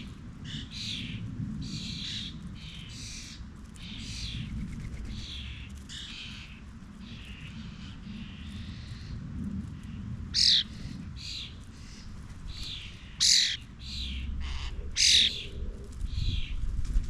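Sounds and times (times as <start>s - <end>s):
birds squawking harshly: 0.0s - 4.5s, 5.1s - 9.2s, 9.8s - 16.6s.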